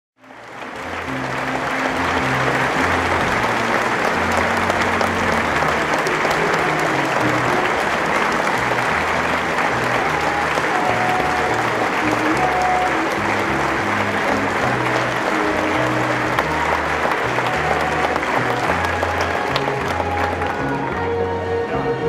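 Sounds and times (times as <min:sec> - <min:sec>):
crowd applauding: 0:00.2 - 0:22.0.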